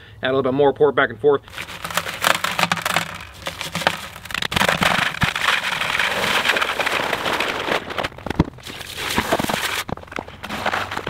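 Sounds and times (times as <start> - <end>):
dry concrete mix pouring: 1.5 - 11.0.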